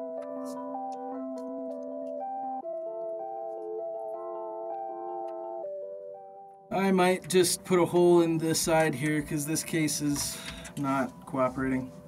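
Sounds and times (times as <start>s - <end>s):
music with held chords: 0.0s - 12.0s.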